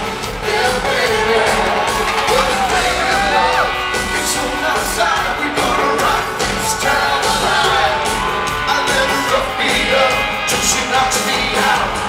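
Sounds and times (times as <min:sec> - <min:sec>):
crowd shouting and whooping: 0:00.0 - 0:12.0
live pop band with singer: 0:00.0 - 0:12.0.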